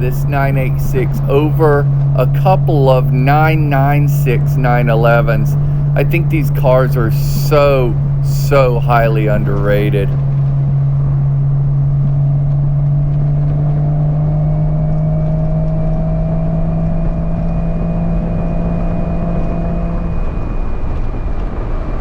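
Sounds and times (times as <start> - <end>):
car engine droning: 0.0 - 22.0
low wind: 0.0 - 22.0
road rumble: 0.0 - 22.0.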